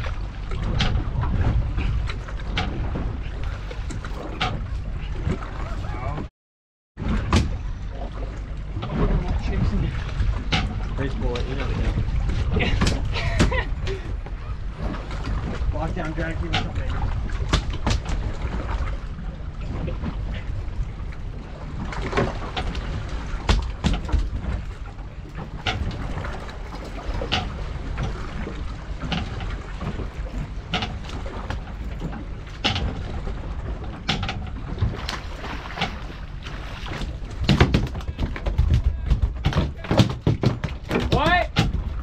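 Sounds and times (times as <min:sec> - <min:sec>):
water noise: 0:00.0 - 0:06.3, 0:07.0 - 0:42.0
wind: 0:00.0 - 0:06.3, 0:07.0 - 0:42.0
boat engine idling: 0:07.1 - 0:42.0.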